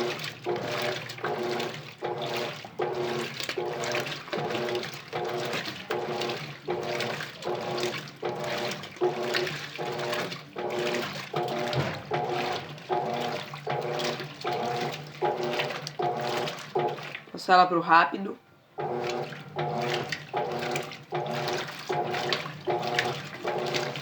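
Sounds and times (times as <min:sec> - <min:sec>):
washing machine motor humming: 0:00.0 - 0:24.0
water sloshing in drum: 0:00.0 - 0:24.0.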